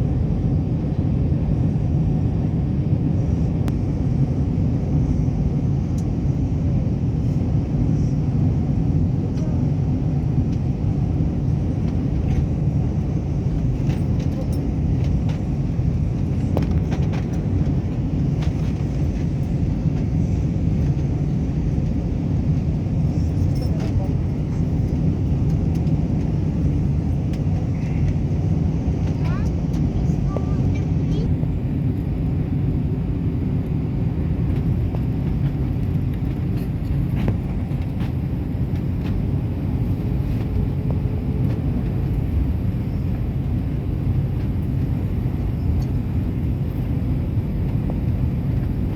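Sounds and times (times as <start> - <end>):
jet airliner cabin rumble: 0.0 - 48.9.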